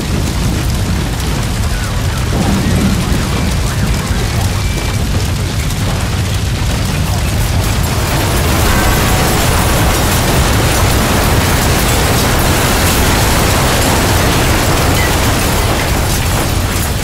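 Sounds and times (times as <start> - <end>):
deep roaring rumble of fire: 0.0 - 17.0
fire crackling: 0.0 - 17.0.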